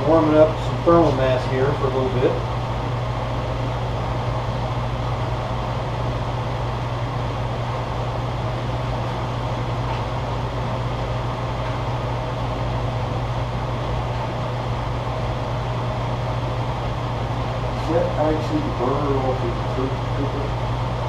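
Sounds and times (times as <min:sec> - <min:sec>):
gas burner roaring: 0:00.0 - 0:21.0
low hum: 0:00.0 - 0:21.0.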